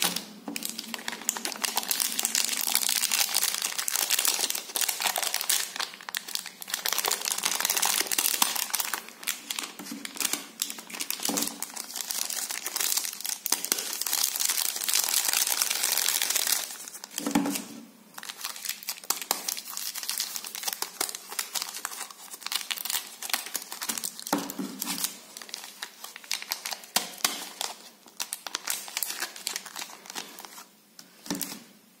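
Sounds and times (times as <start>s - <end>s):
plastic wrappers crinkling: 0.0s - 31.8s.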